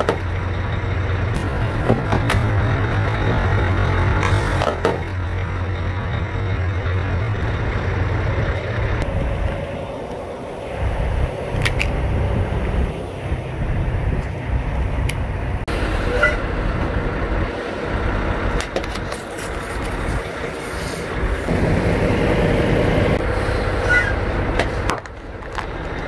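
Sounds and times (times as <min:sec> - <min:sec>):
truck rumbling on asphalt: 0:00.0 - 0:26.0.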